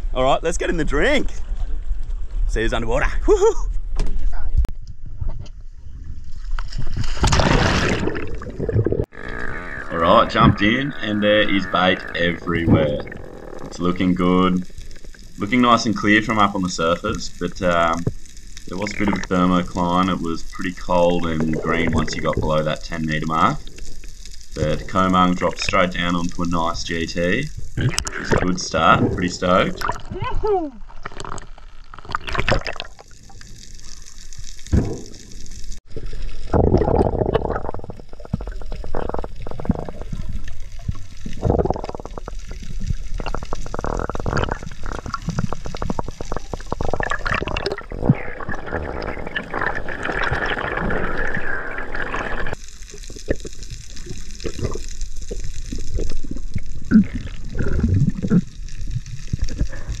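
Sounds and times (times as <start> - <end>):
water rushing: 7.1 - 60.0.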